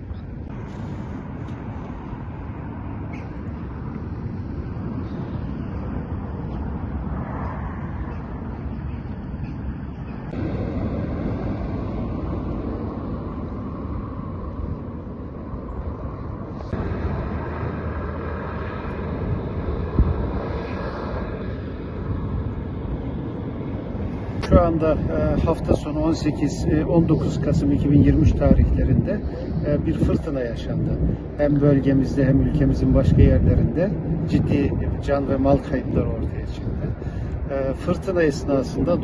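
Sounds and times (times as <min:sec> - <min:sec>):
outdoor background rumble: 0:00.0 - 0:39.0.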